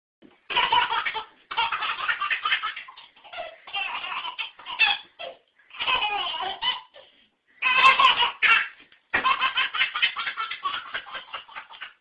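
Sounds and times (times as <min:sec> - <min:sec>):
baby laughing: 0:00.5 - 0:12.0.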